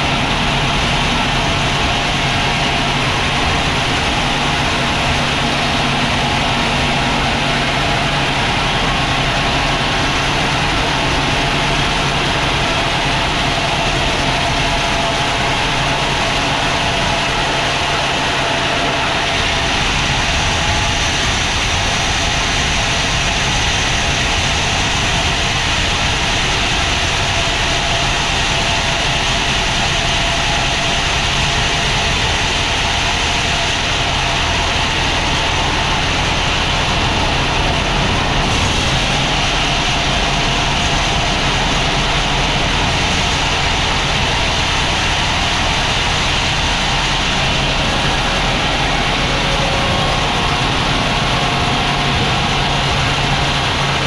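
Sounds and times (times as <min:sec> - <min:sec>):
sawmill engine hum: 0:00.0 - 0:54.0
sawmill machinery hiss: 0:00.0 - 0:54.0.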